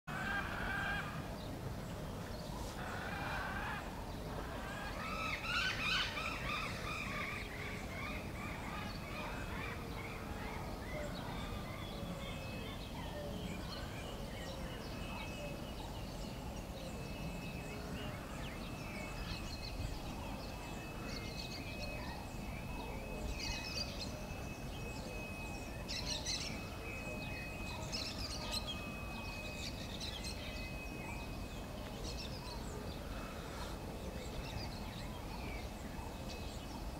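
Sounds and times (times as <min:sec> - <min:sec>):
birds chirping: 0:00.1 - 0:36.9.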